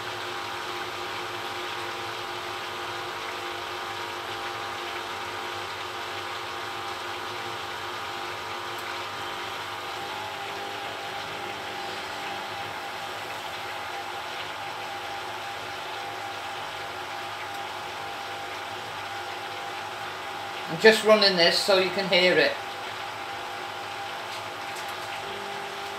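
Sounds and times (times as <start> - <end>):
washing machine running: 0.0 - 25.9.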